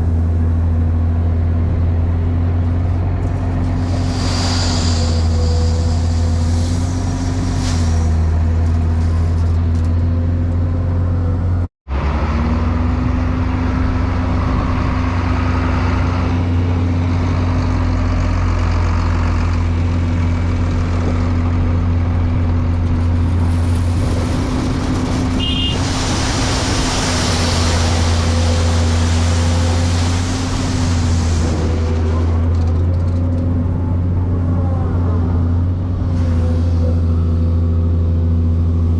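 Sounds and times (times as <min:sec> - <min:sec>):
large engine running steadily: 0:00.0 - 0:38.9.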